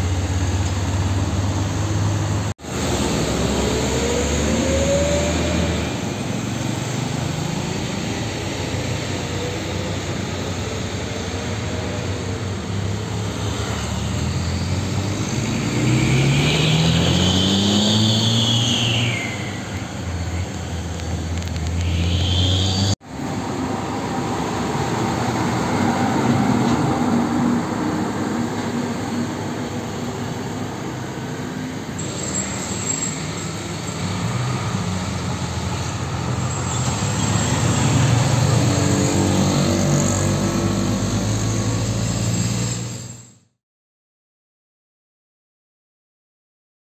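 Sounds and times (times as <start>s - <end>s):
motorcycles driving past: 0.0s - 43.2s
trucks driving past: 0.0s - 43.4s.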